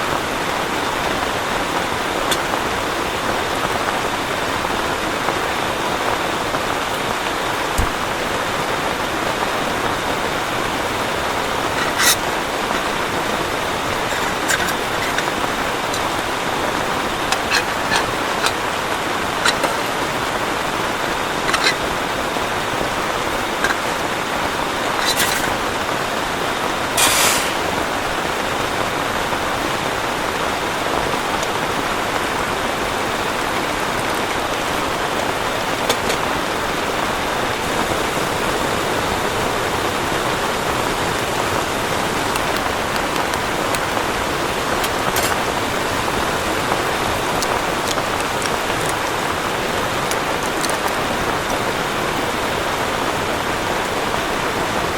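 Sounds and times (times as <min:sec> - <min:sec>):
heavy rain hissing: 0:00.0 - 0:54.9
water splashes: 0:00.6 - 0:53.9.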